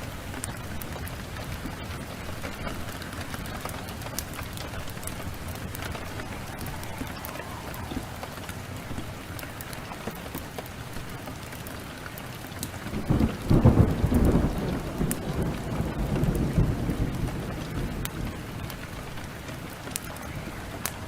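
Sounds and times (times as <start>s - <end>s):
thunder rolling: 0.0s - 11.2s, 12.9s - 21.0s
heavy rain downpour: 0.0s - 21.0s
wood fire crackling: 0.0s - 21.0s.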